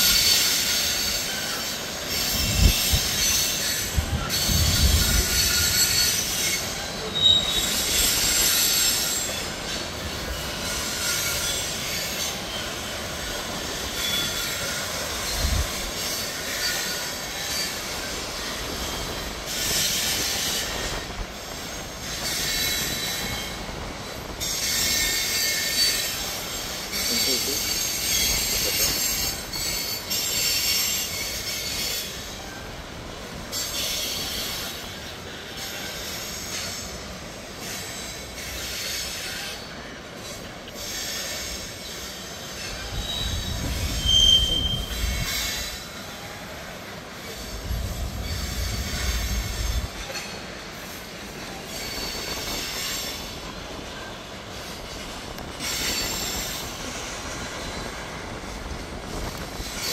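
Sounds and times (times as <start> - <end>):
freight train rolling past: 0.0 - 59.9
steel wheels squealing on rails: 0.0 - 59.9.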